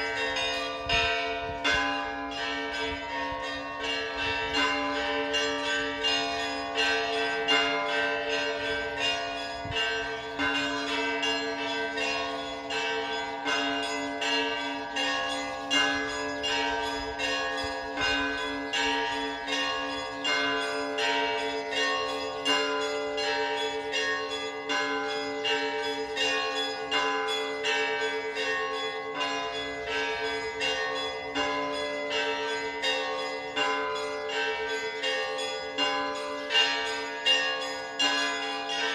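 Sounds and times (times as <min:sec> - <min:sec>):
hum of large bells: 0:00.0 - 0:38.9
small church bells ringing quickly: 0:00.0 - 0:38.9.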